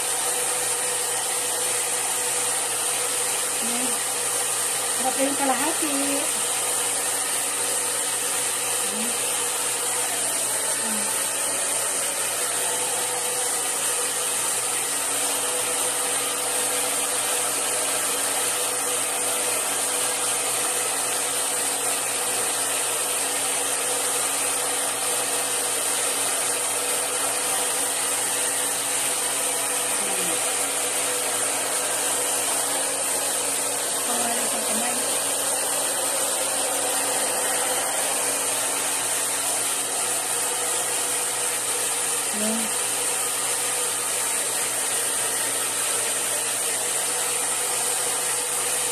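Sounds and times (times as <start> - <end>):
hair dryer blowing: 0.0 - 48.9.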